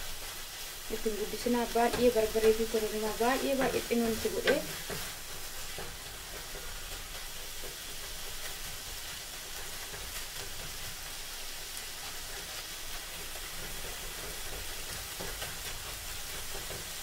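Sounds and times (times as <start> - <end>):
food sizzling in frying pan: 0.0 - 17.0
spatula scraping pan: 1.0 - 17.0.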